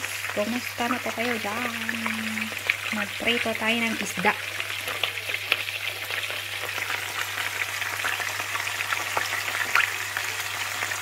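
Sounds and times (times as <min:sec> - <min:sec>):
fish frying in sizzling oil: 0:00.0 - 0:11.0
oil popping and crackling: 0:00.0 - 0:11.0.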